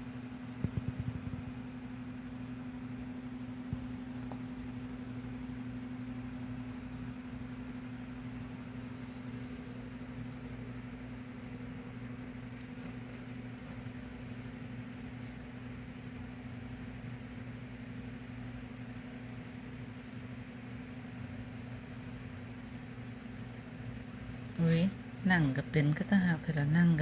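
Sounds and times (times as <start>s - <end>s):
appliance electrical hum: 0.0s - 27.0s.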